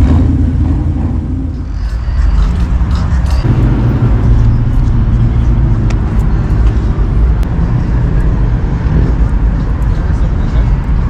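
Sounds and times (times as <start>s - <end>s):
car engine with deep exhaust rumble: 0.0s - 11.0s.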